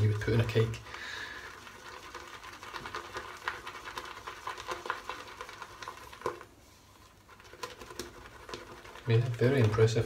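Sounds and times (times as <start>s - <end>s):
shaving brush whipping lather: 0.0s - 6.5s, 7.2s - 10.0s.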